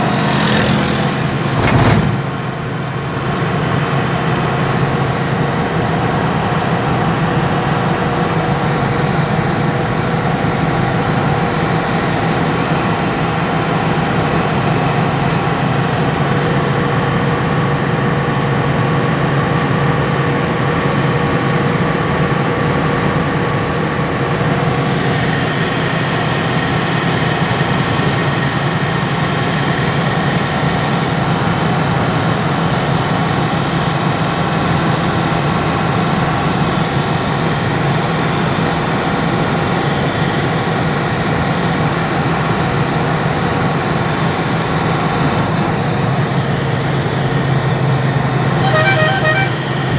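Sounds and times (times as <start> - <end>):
vehicle engine and road noise: 0.0 - 49.9.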